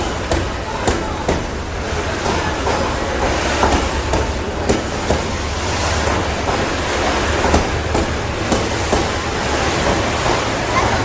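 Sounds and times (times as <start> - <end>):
wheel clicks on rails: 0.0 - 10.7
locomotive engine drone: 0.0 - 11.0.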